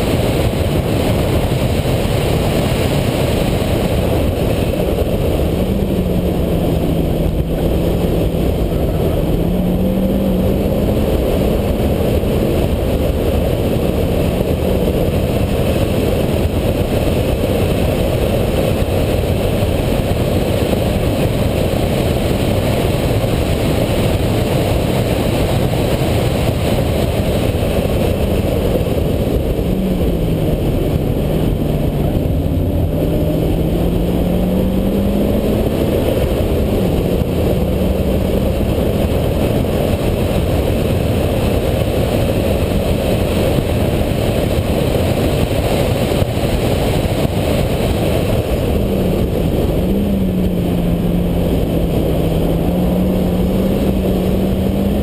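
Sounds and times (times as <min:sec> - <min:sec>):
car engine running at speed: 0:00.0 - 0:55.0
wind and road noise: 0:00.0 - 0:55.0.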